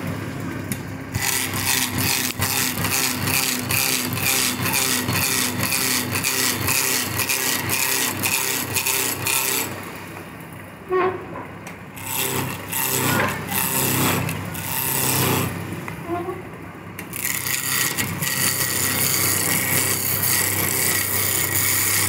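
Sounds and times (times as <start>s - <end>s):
lathe motor hum: 0.0s - 10.2s, 12.0s - 15.9s, 17.0s - 22.0s
turning tool scraping spinning wood: 1.1s - 9.7s, 12.0s - 16.3s, 17.1s - 22.0s.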